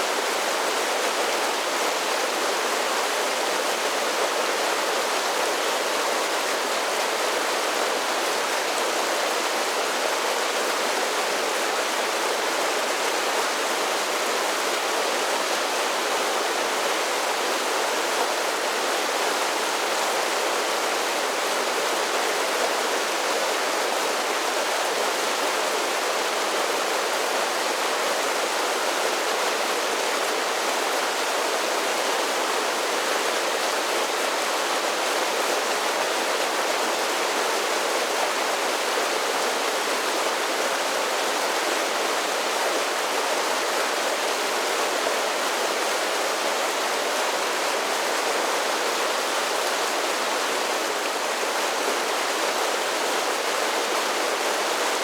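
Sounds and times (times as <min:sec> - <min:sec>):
creek rushing over waterfalls: 0:00.0 - 0:55.0.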